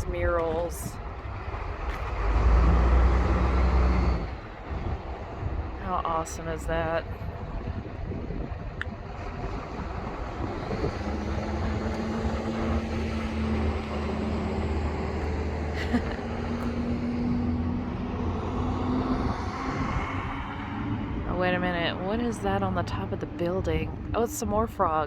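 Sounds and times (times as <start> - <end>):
outdoor street noise: 0.0 - 25.0.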